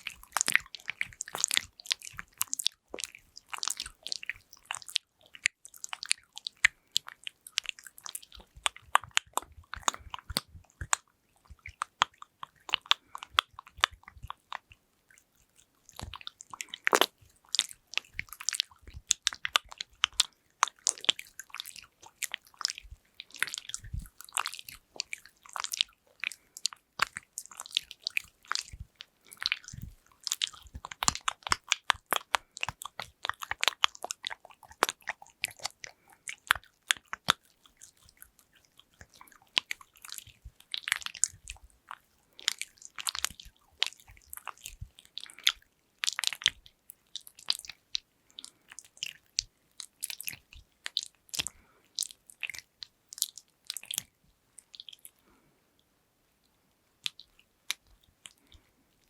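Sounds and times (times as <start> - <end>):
crackly clicks and taps: 0.0 - 59.0.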